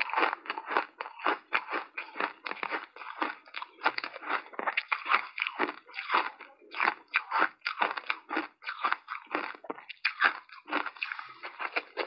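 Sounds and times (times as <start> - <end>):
crunching ice while chewing: 0.0 - 12.0.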